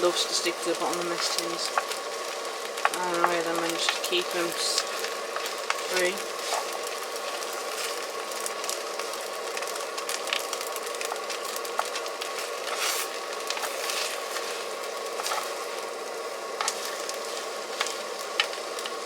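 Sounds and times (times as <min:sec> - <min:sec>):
food sizzling in a tin: 0:00.0 - 0:19.0.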